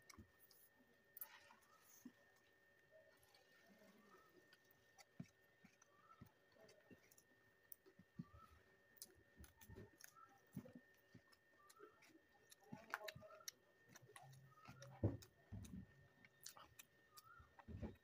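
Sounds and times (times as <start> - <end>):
soft chewing clicks: 0.0 - 18.0.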